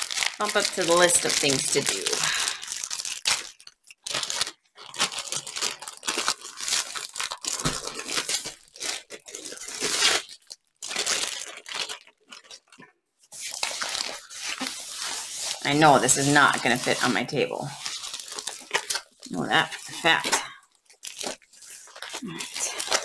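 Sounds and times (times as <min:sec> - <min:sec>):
plastic film and paper crinkling: 0:00.0 - 0:23.0.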